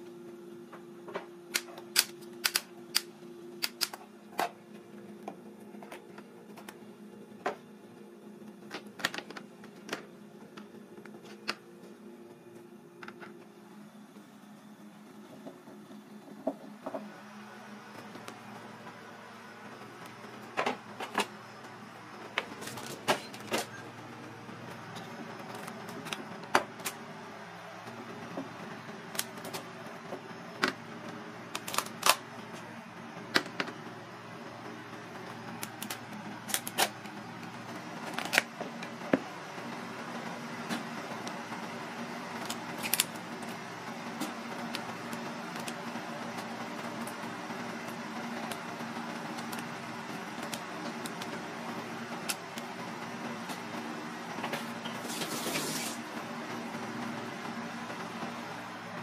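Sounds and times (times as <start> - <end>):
kitchen hum: 0.0 - 59.0.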